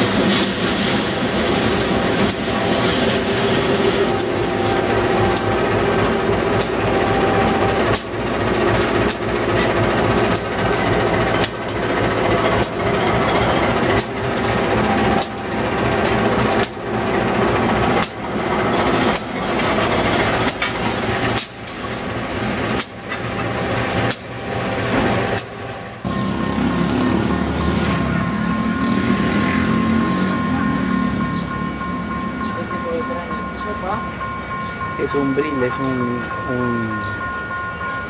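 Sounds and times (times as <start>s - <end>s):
locomotive diesel engine drone: 0.0s - 34.0s
wheels clacking on rail joints: 0.0s - 38.0s.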